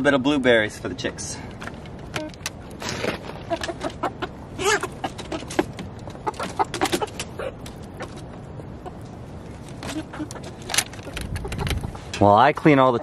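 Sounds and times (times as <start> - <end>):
hens pecking at bowl: 1.5 - 12.2
chickens clucking: 1.6 - 12.2.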